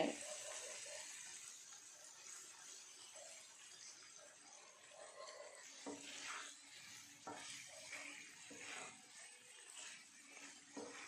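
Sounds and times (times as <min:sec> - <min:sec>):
faint sizzling in pan: 0:00.0 - 0:11.0
spatula scraping and stirring: 0:00.0 - 0:11.0.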